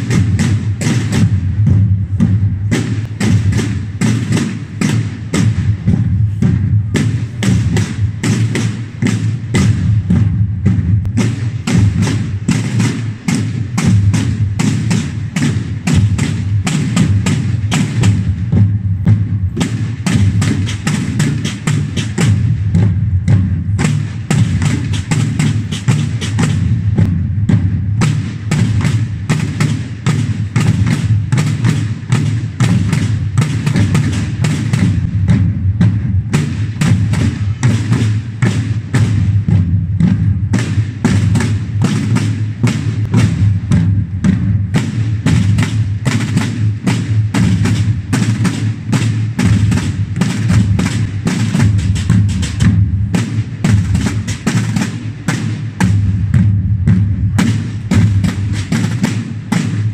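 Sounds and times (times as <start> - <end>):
booming low drum: 0.0 - 59.9
marching drums playing: 0.0 - 59.9.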